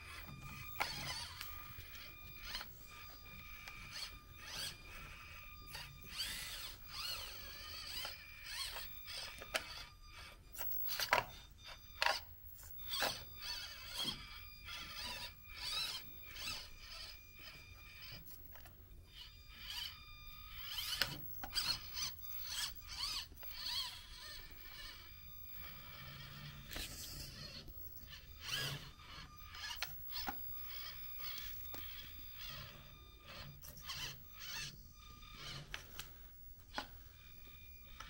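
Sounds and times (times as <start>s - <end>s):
small electric motor whining: 0.0s - 38.0s.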